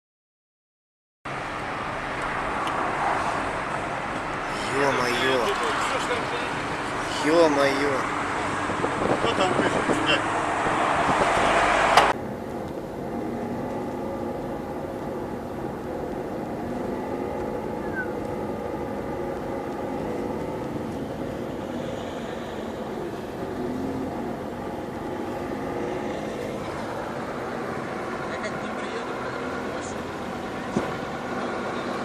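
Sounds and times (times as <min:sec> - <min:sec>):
vehicle engine running: 0:01.4 - 0:32.0.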